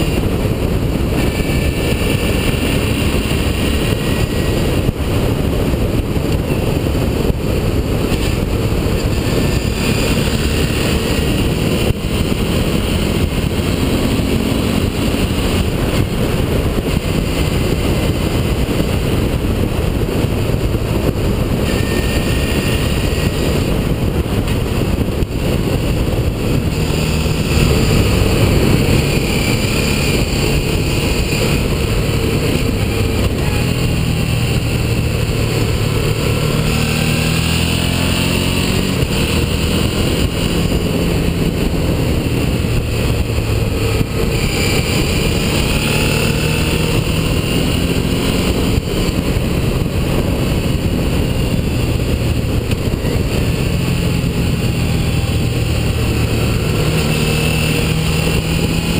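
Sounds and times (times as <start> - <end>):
motorcycle engine running: 0.0 - 58.9
road noise: 0.0 - 58.9
wind rush: 0.0 - 58.9.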